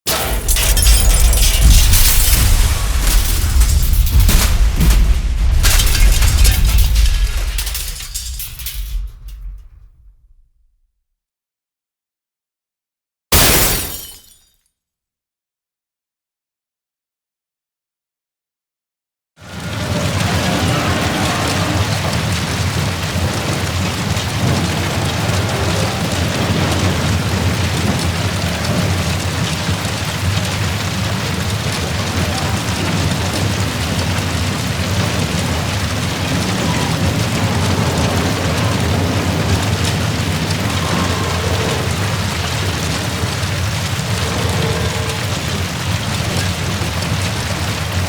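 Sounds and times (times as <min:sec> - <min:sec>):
large fire roaring: 0:00.1 - 0:10.6, 0:19.4 - 0:48.0.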